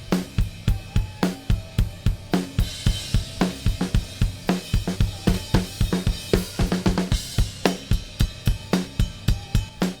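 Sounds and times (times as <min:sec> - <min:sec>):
drum kit playing a steady beat: 0:00.0 - 0:10.0.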